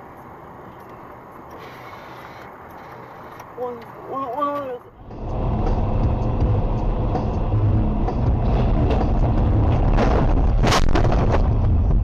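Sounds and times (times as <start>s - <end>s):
tyres and engine rumble in rain: 0.0s - 12.0s.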